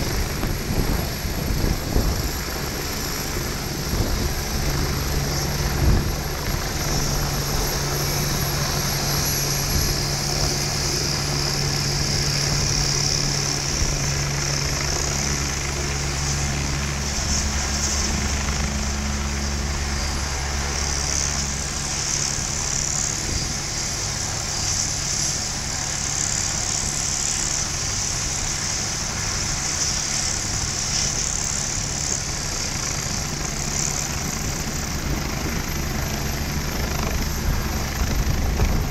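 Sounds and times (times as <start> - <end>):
deep helicopter rotor thrum: 0.0 - 38.9
helicopter turbine whine: 0.0 - 38.9.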